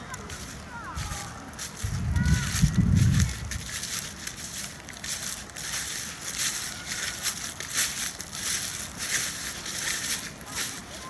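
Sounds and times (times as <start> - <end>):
footsteps crunching dry leaves: 0.0 - 11.0.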